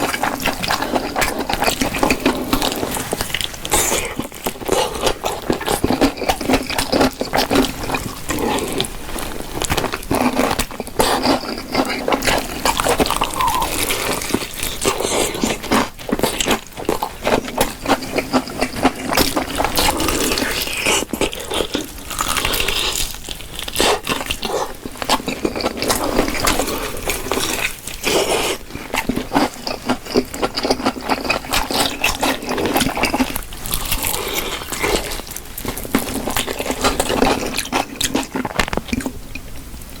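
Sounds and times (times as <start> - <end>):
crunching fried chicken: 0.0 - 40.0
wet mouth sounds: 0.0 - 40.0.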